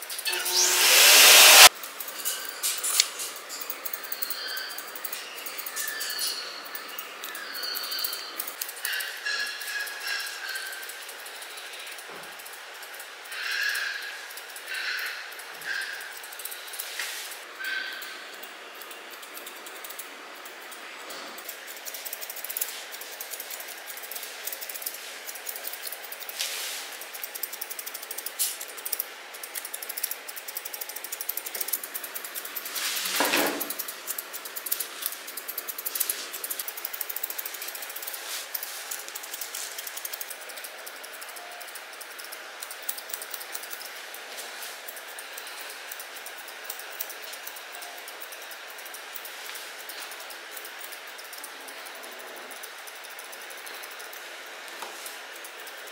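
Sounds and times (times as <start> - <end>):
scissors snipping fur: 0.1 - 55.9.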